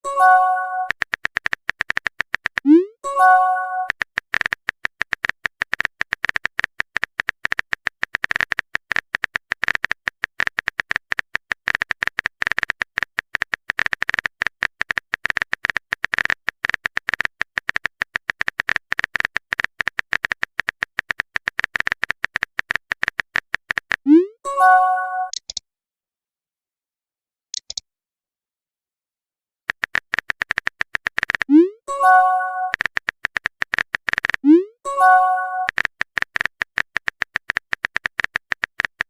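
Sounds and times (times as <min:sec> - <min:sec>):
rapid keyboard typing clicks: 0:00.0 - 0:24.2, 0:29.7 - 0:39.0.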